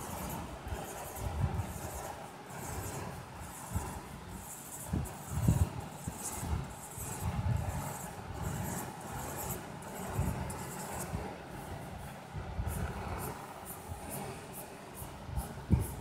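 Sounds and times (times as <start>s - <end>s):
pen scratching on paper: 0.1s - 12.1s, 12.7s - 16.0s.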